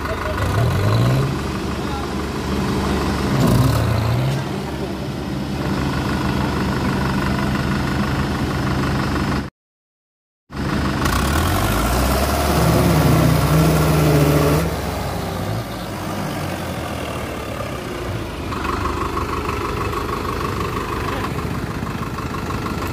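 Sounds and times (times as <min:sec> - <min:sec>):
tractor diesel engines under load: 0:00.0 - 0:09.5, 0:10.5 - 0:22.9.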